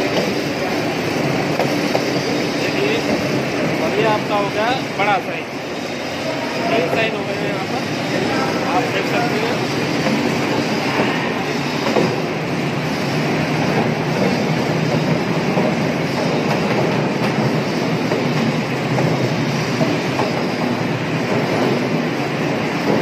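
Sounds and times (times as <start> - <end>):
sorting machine rollers running: 0.0 - 23.0.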